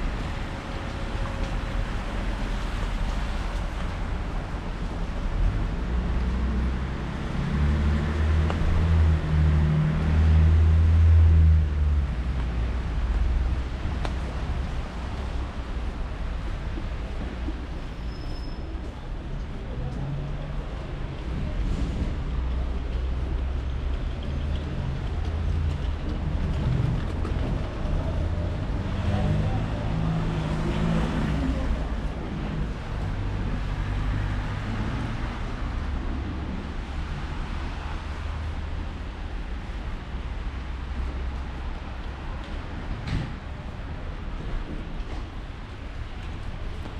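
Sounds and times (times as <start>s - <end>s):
rain: 0.0s - 46.9s
vehicle engines rumbling: 0.0s - 46.9s.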